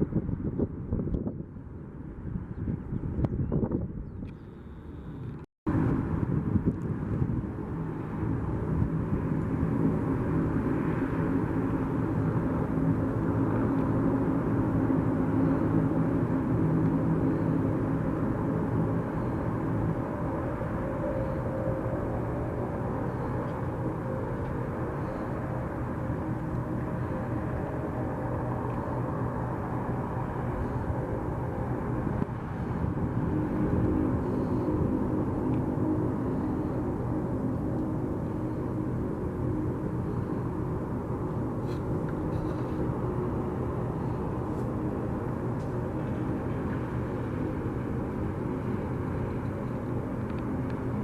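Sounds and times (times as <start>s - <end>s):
jet airliner engines droning: 0.0s - 51.0s.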